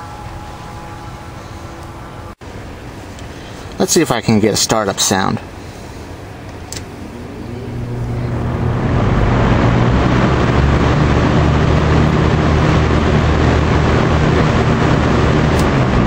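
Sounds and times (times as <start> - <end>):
fan air rush: 0.0 - 16.0
fan motor hum: 0.0 - 16.0.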